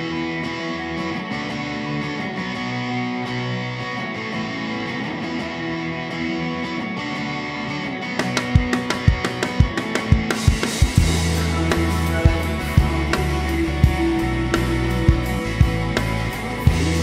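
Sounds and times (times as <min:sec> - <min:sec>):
electric guitar chords: 0:00.0 - 0:17.0
instrumental backing music: 0:00.0 - 0:17.0.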